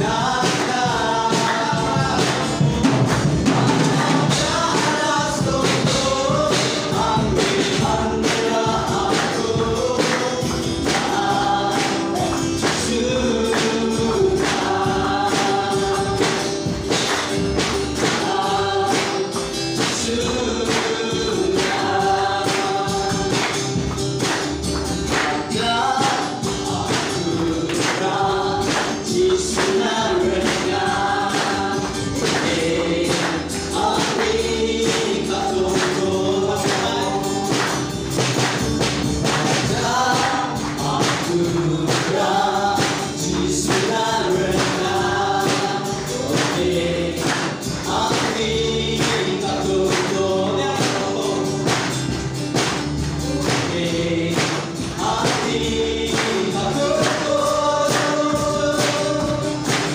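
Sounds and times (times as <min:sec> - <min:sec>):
group singing worship song: 0:00.0 - 0:59.9
hands clapping on a beat: 0:00.0 - 0:59.9.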